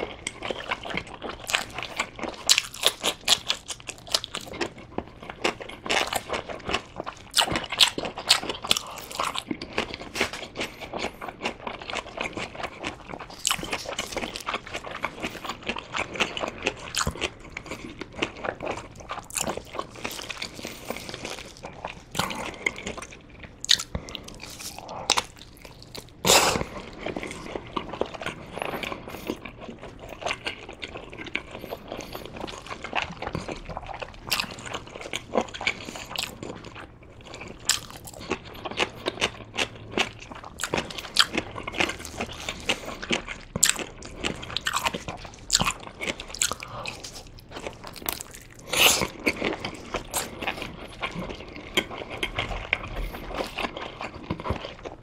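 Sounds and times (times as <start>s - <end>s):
wet chewing and biting: 0.0s - 55.0s.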